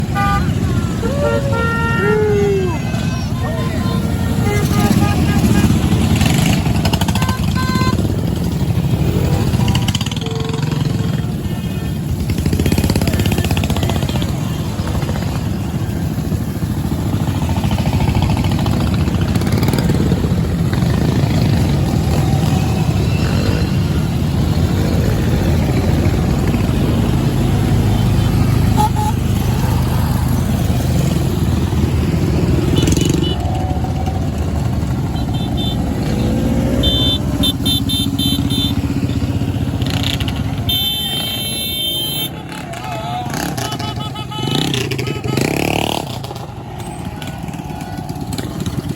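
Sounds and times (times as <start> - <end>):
motorcycle engines running: 0.0 - 48.9.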